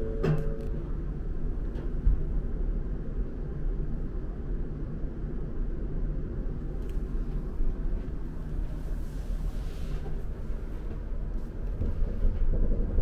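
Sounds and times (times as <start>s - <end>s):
train running noise inside cabin: 0.0s - 13.0s.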